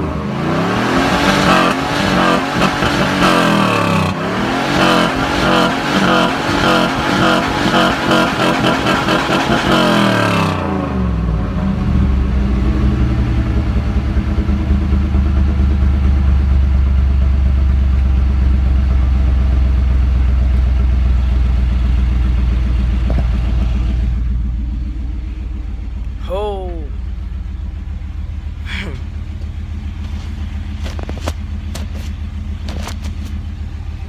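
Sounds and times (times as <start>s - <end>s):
car engine revving down to idle: 0.0s - 34.0s.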